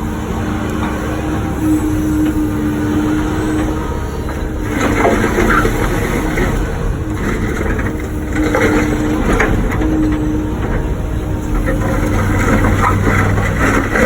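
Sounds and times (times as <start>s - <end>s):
excavator diesel engine: 0.0s - 14.0s
bucket scraping blacktop: 0.9s - 14.0s.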